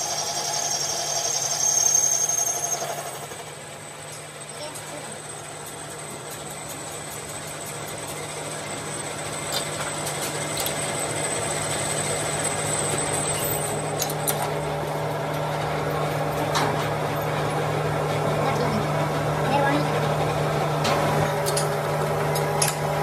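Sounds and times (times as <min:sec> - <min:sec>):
workshop machinery humming: 0:00.0 - 0:23.0.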